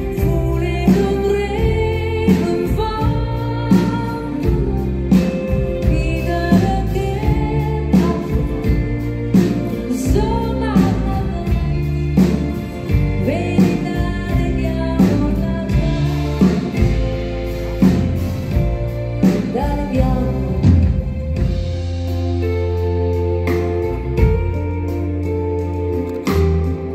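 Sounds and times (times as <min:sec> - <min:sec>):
woman singing: 0:00.0 - 0:21.6
keyboard chords: 0:00.0 - 0:26.9.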